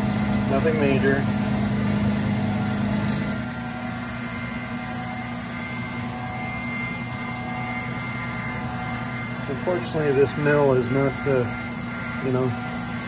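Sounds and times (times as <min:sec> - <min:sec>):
milling machine motor hum: 0:00.0 - 0:13.0.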